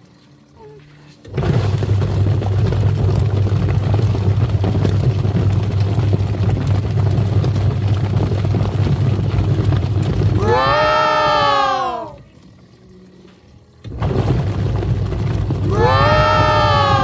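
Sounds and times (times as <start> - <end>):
washing machine motor hum: 0.0 - 17.0
water churning: 0.2 - 17.0.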